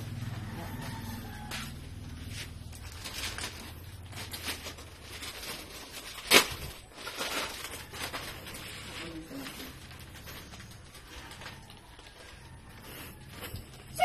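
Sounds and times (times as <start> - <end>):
plastic bags rustling: 0.0 - 14.0.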